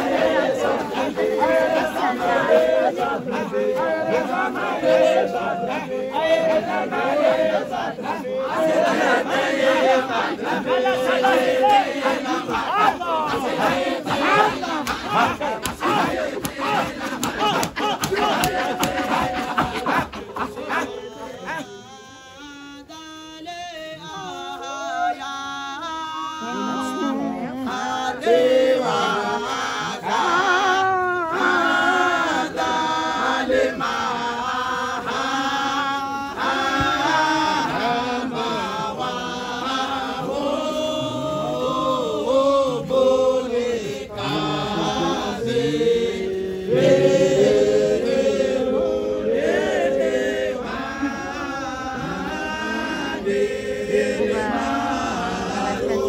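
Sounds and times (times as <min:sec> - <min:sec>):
men chanting together: 0:00.0 - 0:56.0.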